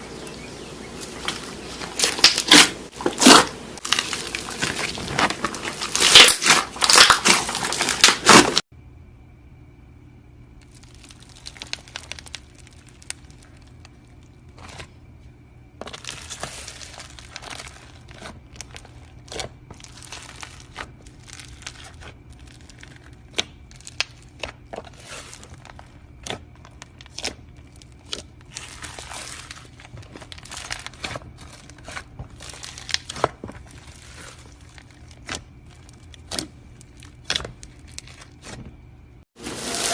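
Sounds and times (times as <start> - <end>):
faint steady hum: 0.0 - 39.2
crunchy slime crackling: 1.0 - 8.7, 10.6 - 15.0, 15.8 - 39.2.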